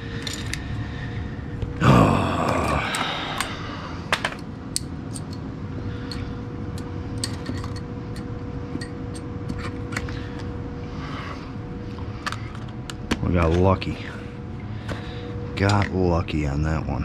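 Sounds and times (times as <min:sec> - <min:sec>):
furnace motor humming: 0:00.0 - 0:17.0.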